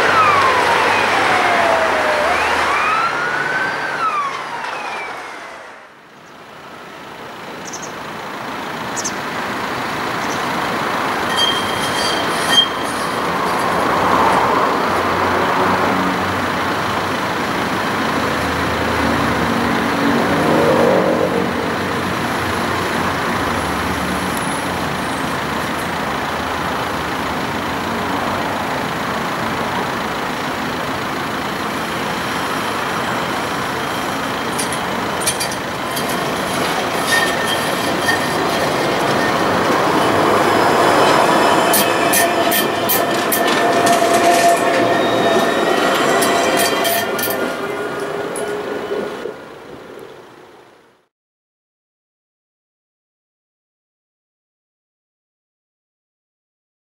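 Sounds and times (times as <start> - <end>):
street traffic: 0.0 - 51.1
tram rolling on track: 0.0 - 51.1.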